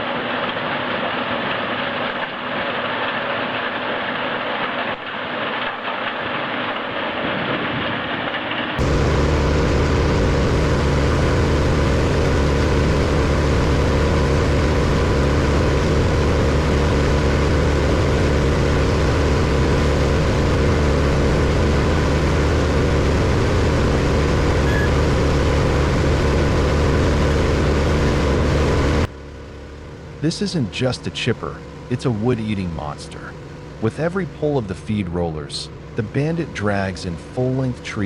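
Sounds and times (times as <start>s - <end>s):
wood chipper engine droning: 0.0s - 38.0s.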